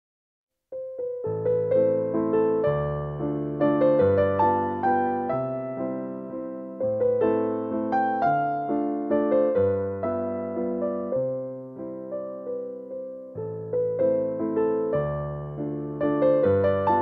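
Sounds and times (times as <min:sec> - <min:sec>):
piano music: 0:00.7 - 0:17.0.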